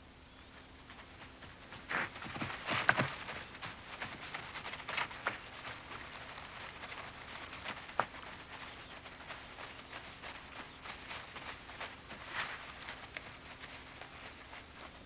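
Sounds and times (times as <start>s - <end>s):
steady hiss: 0.0s - 15.0s
running footfalls on dry ground: 0.6s - 15.0s.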